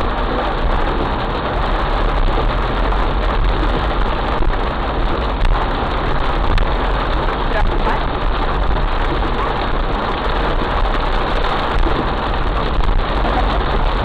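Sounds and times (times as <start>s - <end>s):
heavy rain falling: 0.0s - 14.0s
low rumble: 0.0s - 14.0s.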